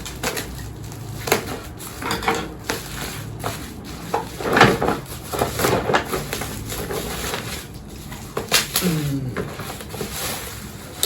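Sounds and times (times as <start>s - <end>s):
bubble wrap crackling: 0.0s - 11.0s
plastic packaging crinkling: 0.0s - 11.0s.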